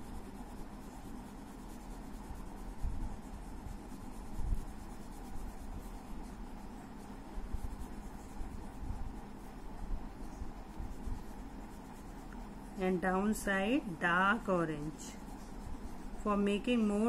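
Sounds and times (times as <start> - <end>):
crayon scribbling on paper: 0.0 - 17.0.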